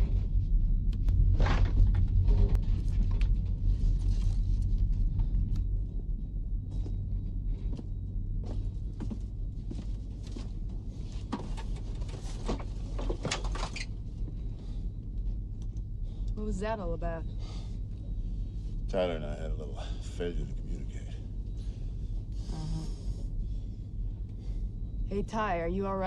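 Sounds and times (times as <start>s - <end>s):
low drone of aircraft engines: 0.0s - 26.0s.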